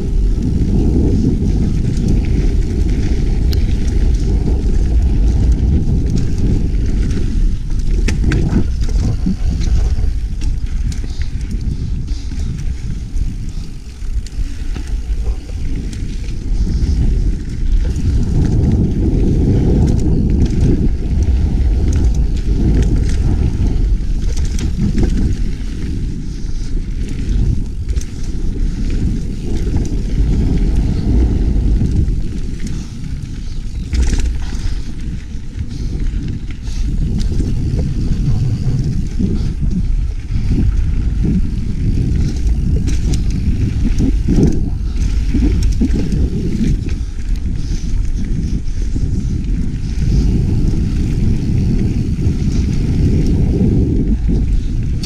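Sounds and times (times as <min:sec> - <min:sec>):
bike rattles and knocks: 0:00.0 - 0:55.0
bike tyre noise: 0:00.0 - 0:55.0
wind buffeting camera microphone: 0:00.0 - 0:55.0.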